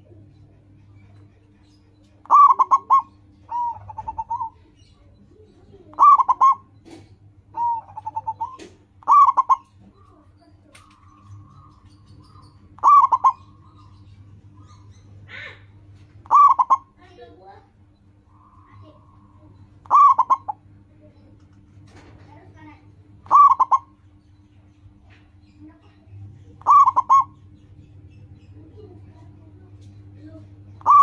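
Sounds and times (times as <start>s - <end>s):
dove cooing: 0.0s - 17.6s, 18.2s - 24.0s, 25.6s - 27.5s, 28.6s - 31.0s.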